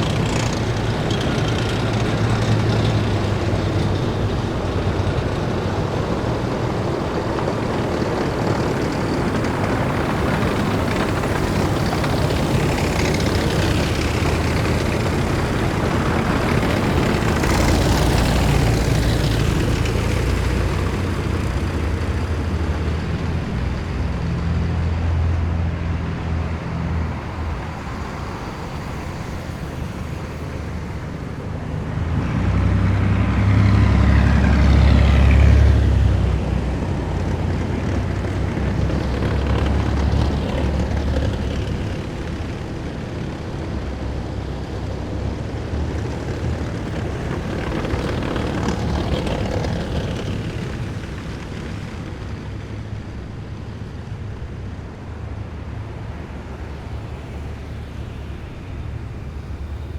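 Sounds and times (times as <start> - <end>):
heavy military vehicles driving: 0.0 - 59.9
vehicle whine: 0.0 - 59.9.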